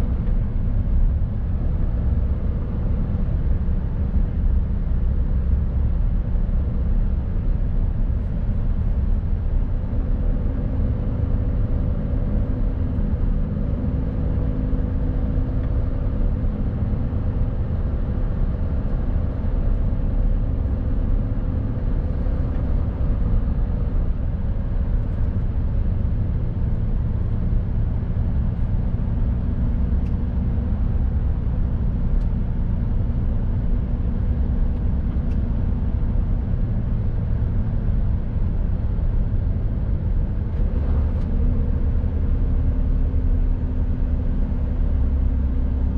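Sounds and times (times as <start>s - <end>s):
truck diesel engine rumbling: 0.0s - 45.9s.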